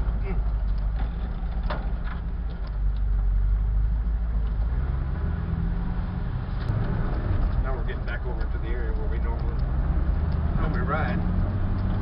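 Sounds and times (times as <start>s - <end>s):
vehicle engine rumble on rough trail: 0.0s - 12.0s.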